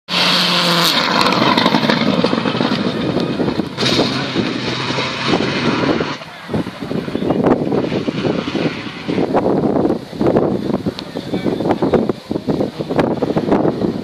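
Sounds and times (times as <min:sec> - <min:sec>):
rally car engine under load: 0:00.1 - 0:14.0
road and wind noise: 0:00.1 - 0:14.0.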